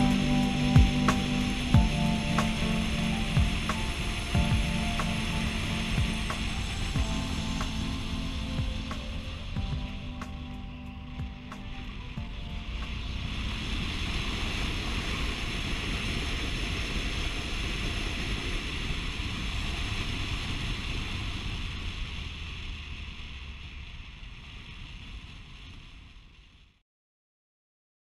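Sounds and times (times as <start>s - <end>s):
wind rushing over microphone: 0.0s - 25.7s.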